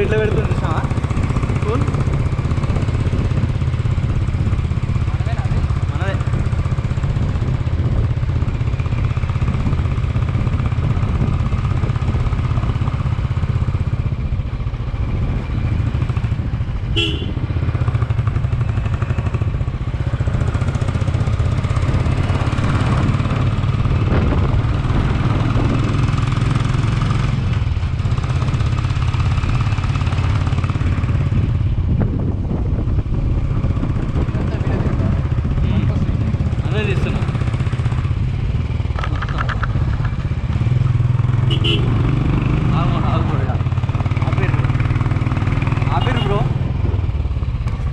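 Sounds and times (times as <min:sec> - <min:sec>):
wind rumble on microphone: 0:00.0 - 0:41.3, 0:42.0 - 0:47.9
motorcycle engine running: 0:00.0 - 0:47.9.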